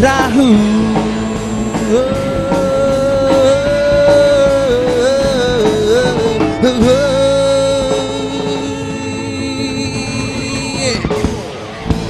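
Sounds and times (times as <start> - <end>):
man singing with vibrato: 0.0 - 11.2
live band playing: 0.0 - 12.0.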